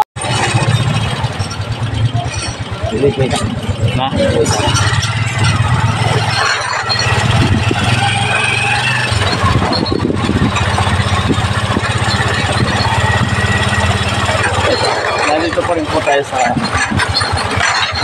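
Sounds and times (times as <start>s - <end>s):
small motorcycle engine running: 0.2s - 18.0s.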